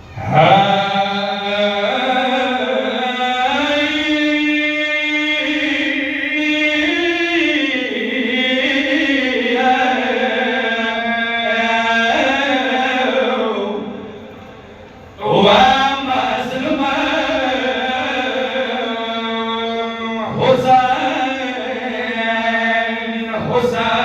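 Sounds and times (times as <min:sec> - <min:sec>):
man chanting: 0:00.1 - 0:14.4, 0:15.2 - 0:24.0.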